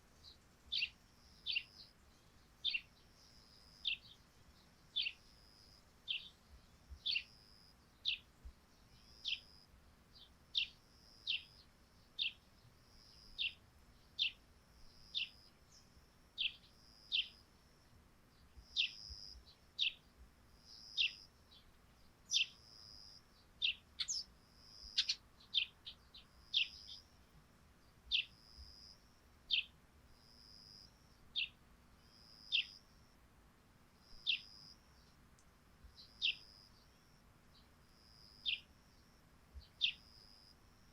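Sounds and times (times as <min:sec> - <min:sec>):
sparrows chirping: 0:00.2 - 0:17.4, 0:18.3 - 0:32.8, 0:34.1 - 0:35.2, 0:35.9 - 0:40.4.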